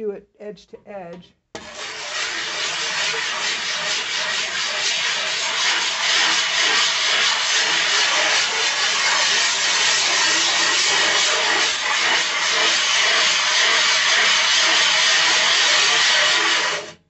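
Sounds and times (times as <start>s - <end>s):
glass muller rasping on glass: 1.6s - 17.0s.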